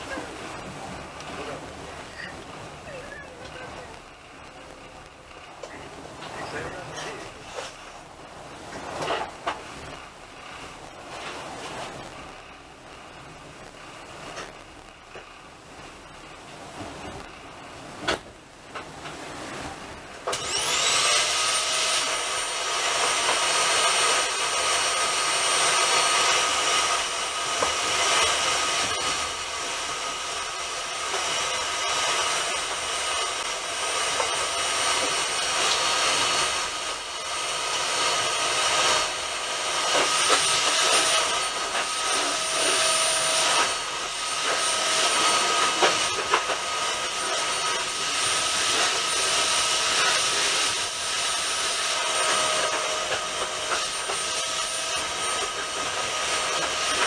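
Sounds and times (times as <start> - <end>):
moving train rushing with whine: 0.0 - 57.0.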